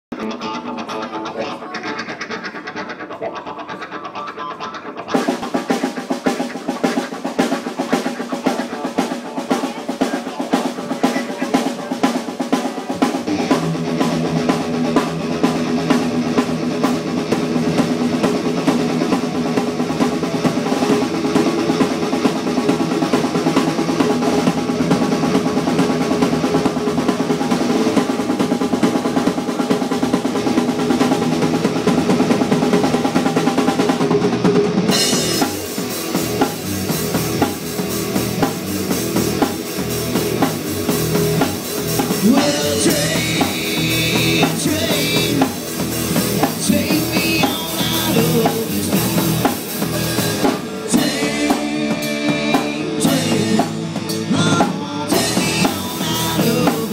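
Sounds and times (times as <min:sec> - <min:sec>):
rock band playing: 0:00.1 - 0:56.9.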